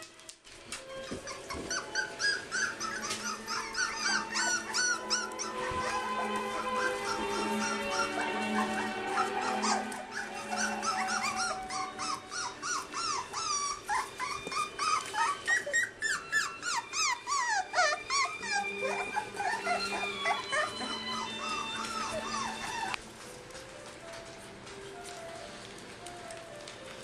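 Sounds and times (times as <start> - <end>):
puppies whining and yelping: 0.8 - 23.0.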